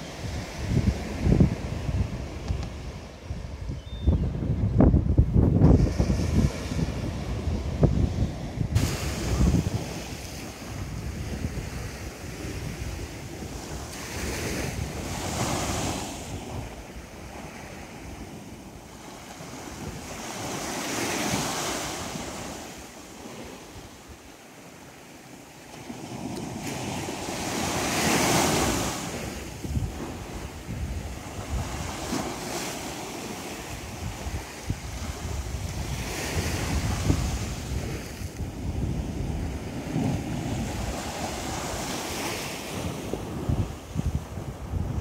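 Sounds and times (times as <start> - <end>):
wind rumbling on microphone: 0.0 - 24.3, 25.8 - 45.0
waves washing on sandy beach: 0.0 - 45.0.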